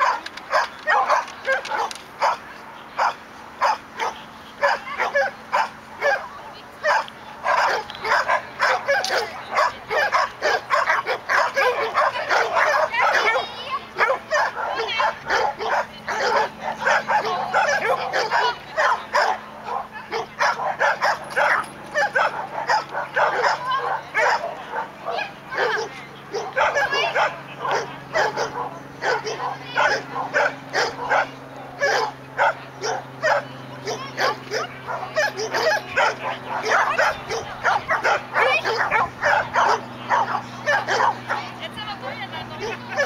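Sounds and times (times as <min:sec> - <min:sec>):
dog barking: 0:00.0 - 0:02.4, 0:03.0 - 0:41.4.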